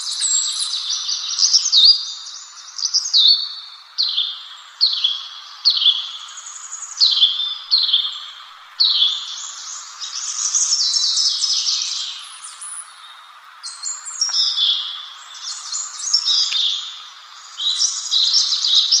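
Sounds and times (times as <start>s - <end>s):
songbird chirping: 0.0s - 19.0s
steady background hiss: 0.0s - 19.0s.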